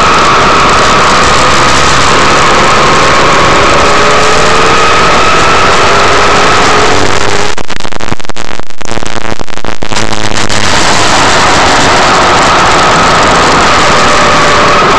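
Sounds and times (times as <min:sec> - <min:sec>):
wind rush: 0:00.0 - 0:14.9.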